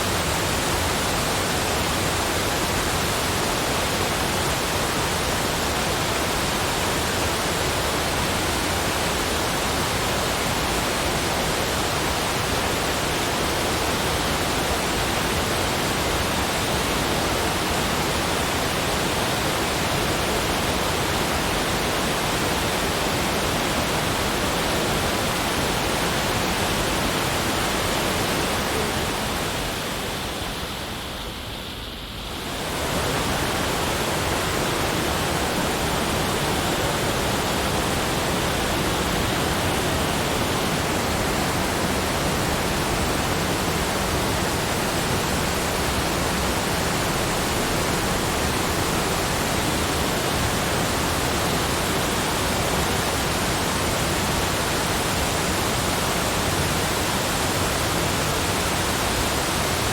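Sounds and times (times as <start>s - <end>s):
steady rushing water noise: 0.0s - 59.9s.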